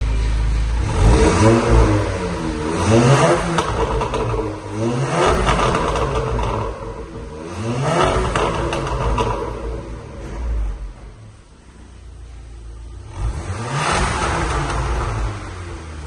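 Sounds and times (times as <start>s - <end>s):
engine revving: 0.7s - 11.2s, 13.0s - 16.0s.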